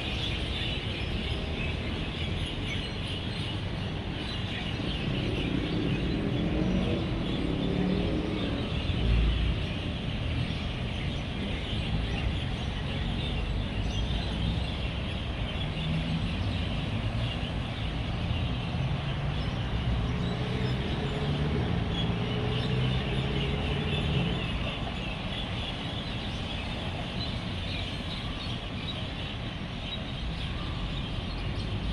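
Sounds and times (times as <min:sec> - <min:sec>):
road traffic rumble: 0:00.0 - 0:31.9.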